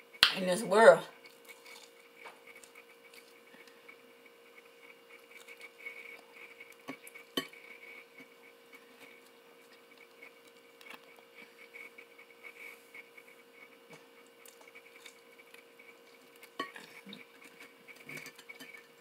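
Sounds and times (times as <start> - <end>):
chewing fried chicken: 1.1 - 19.0.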